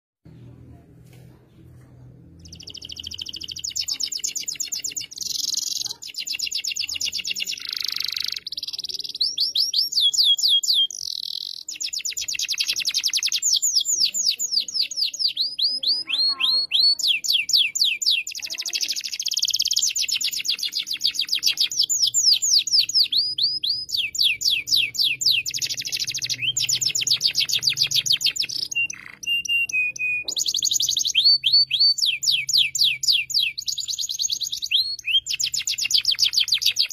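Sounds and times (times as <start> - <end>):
canary singing trills: 2.4 - 36.9.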